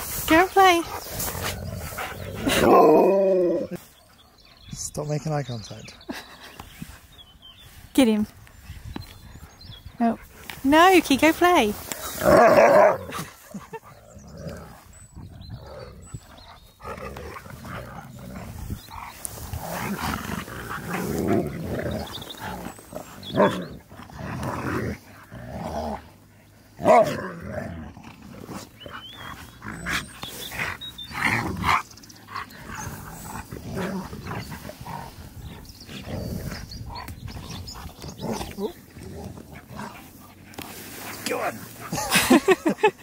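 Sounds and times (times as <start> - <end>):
dogs snarling: 0.0 - 4.4, 11.4 - 43.0
dogs growling: 0.0 - 4.7, 11.9 - 43.0.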